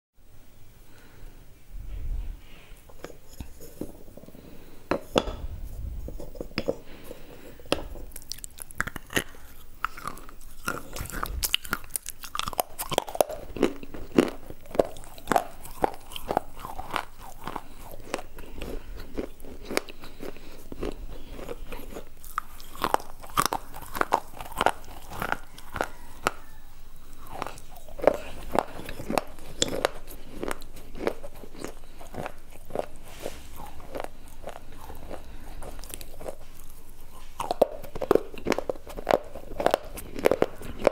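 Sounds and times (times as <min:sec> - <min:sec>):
person chewing crunchy bars: 0:02.9 - 0:40.9.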